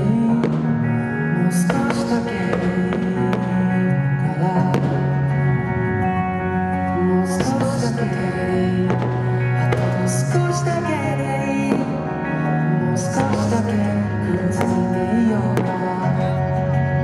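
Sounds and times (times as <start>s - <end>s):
melodic music with sustained chords: 0.0s - 17.0s.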